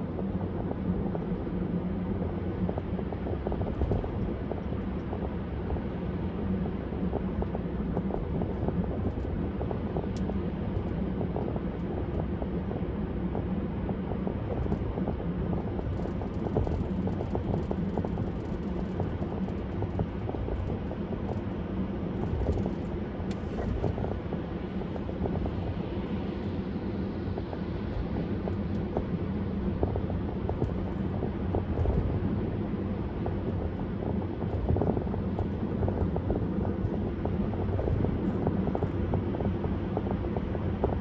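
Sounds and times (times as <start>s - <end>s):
car driving rumble: 0.0s - 41.0s.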